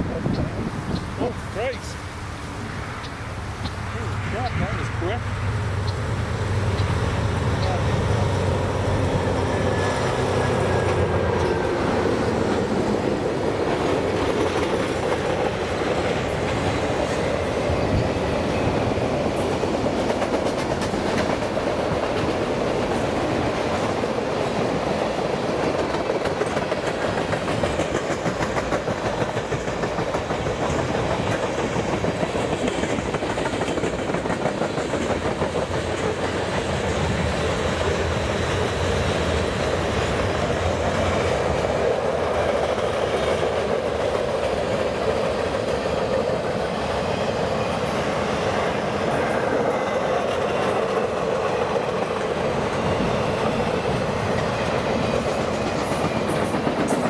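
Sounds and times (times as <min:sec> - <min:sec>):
train wheels clicking over rail joints: 0:05.8 - 0:57.0.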